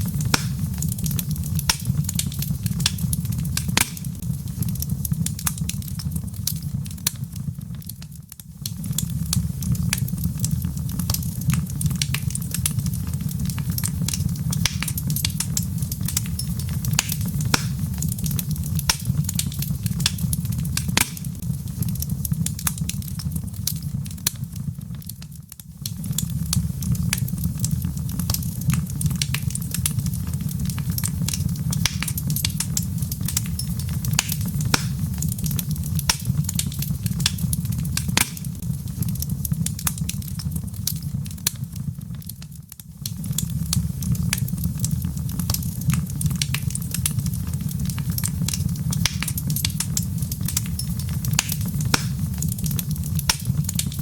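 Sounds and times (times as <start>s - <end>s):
log fire crackling and popping: 0.0s - 54.0s.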